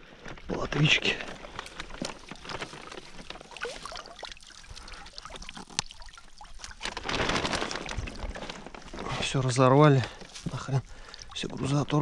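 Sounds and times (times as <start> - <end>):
water dripping and splashing: 1.1 - 12.0.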